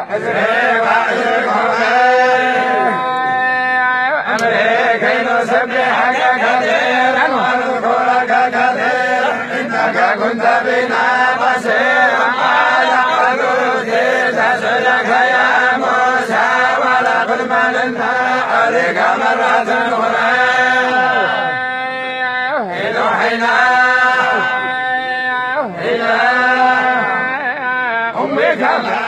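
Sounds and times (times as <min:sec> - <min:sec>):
men chanting in unison: 0:00.0 - 0:29.0.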